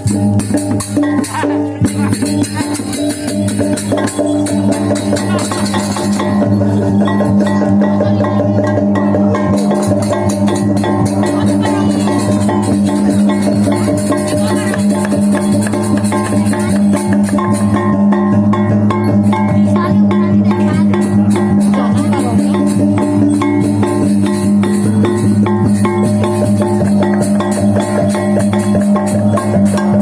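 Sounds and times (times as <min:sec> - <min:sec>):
tuned metallophone notes: 0:00.0 - 0:30.0.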